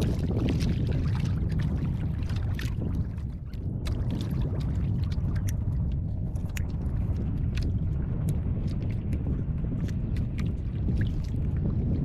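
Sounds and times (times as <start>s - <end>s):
low rumble of wind: 0.0s - 12.0s
water around canoe: 0.0s - 12.0s.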